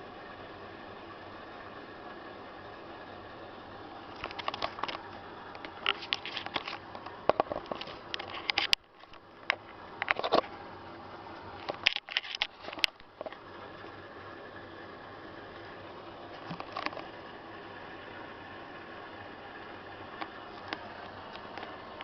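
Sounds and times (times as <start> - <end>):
washing machine drum humming: 0.0 - 22.0.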